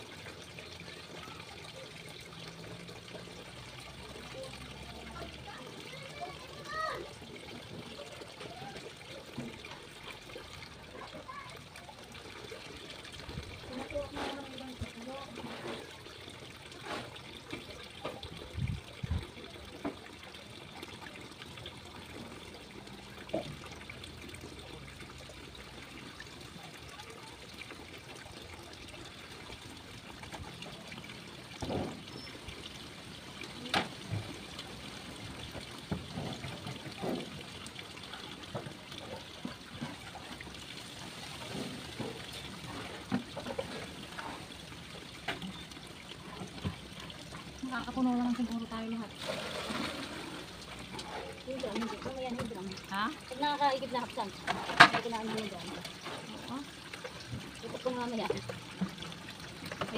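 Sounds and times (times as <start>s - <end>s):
water trickling into steel basin: 0.0s - 59.9s.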